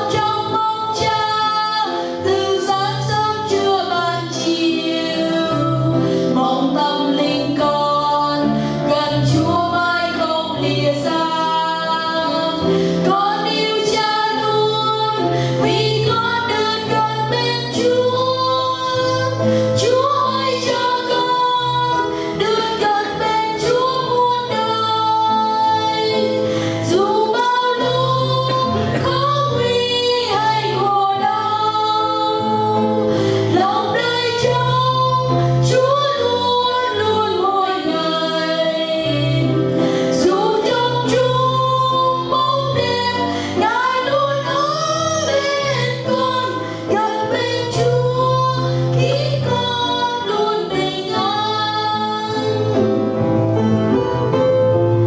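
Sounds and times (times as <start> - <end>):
women singing a hymn duet: 0.0 - 52.8
instrumental accompaniment: 0.0 - 55.0.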